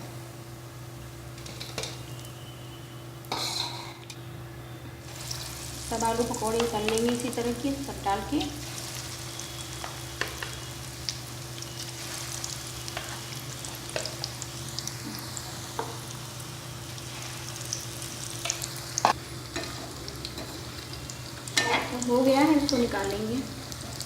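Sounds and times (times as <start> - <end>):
food sizzling in hot oil: 0.9 - 4.0, 5.0 - 24.0.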